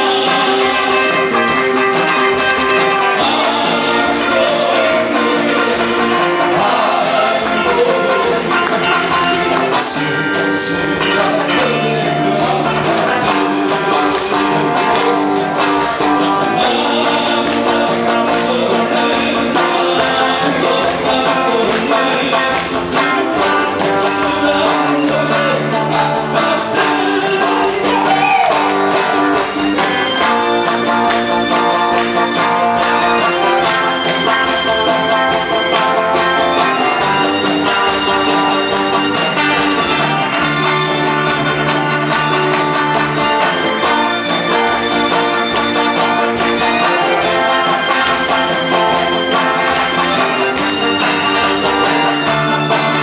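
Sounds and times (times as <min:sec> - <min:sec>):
guitar: 0:00.0 - 0:53.0
live band playing: 0:00.0 - 0:53.0
person singing: 0:00.0 - 0:53.0.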